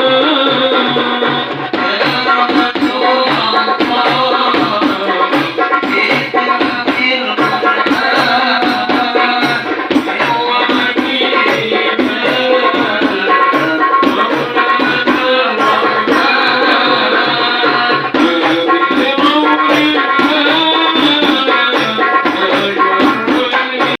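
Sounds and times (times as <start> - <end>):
frame drums beating: 0.0 - 24.0
jingling percussion: 0.0 - 24.0
sung melody: 0.0 - 24.0.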